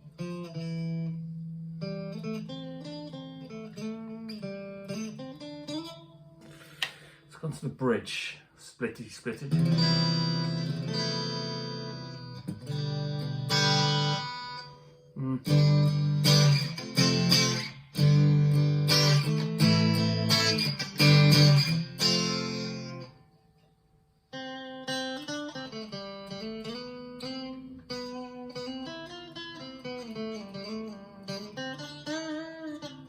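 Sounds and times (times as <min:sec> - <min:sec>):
clean electric guitar: 0:00.0 - 0:07.3, 0:09.4 - 0:23.7, 0:24.3 - 0:33.0.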